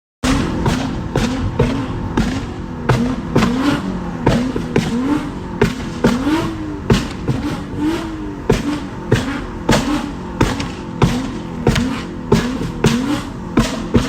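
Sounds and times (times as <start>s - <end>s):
car engine revving: 0.2s - 14.0s
exhaust cracks: 0.2s - 14.0s.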